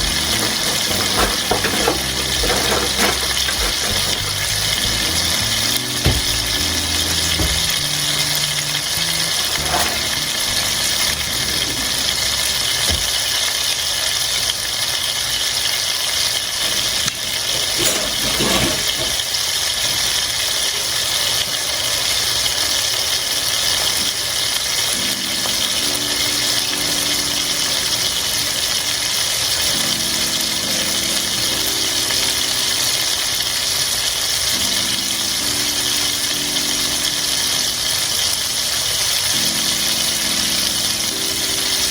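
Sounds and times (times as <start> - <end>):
chicken sizzling in oil: 0.0 - 41.9.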